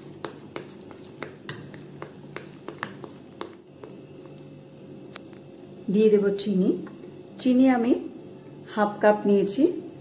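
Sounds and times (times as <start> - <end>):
faint room hum: 0.0 - 10.0.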